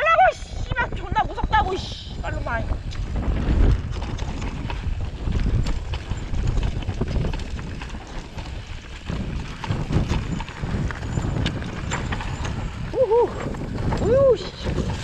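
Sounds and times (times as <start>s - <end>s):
wind buffeting microphone: 0.0s - 15.0s
tyres rumbling over stones: 2.4s - 15.0s
bike knocks and rattles: 2.8s - 15.0s.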